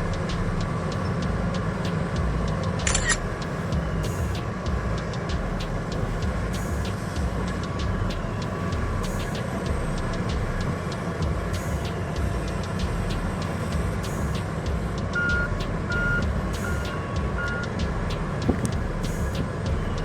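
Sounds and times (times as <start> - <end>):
heavy machinery engine rumble: 0.0 - 20.0
reversing alarm beeping: 0.0 - 20.0.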